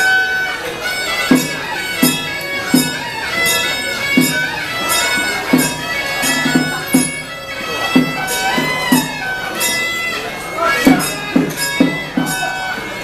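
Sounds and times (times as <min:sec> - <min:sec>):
shawm playing reedy melody: 0:00.0 - 0:13.0.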